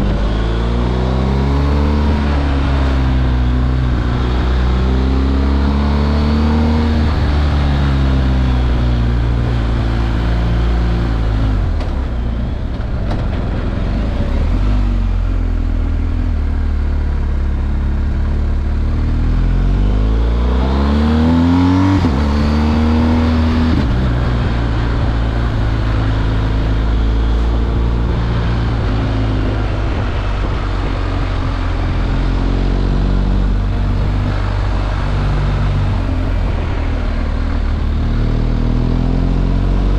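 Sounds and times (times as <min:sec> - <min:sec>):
motorcycle engine revving: 0:00.0 - 0:12.4, 0:13.0 - 0:39.9.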